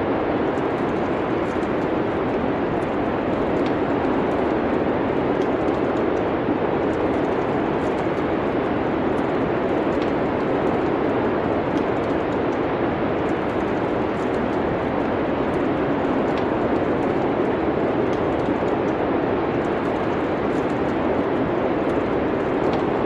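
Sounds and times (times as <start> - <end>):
rushing wind: 0.0 - 23.0
wood fire crackling: 0.4 - 23.0.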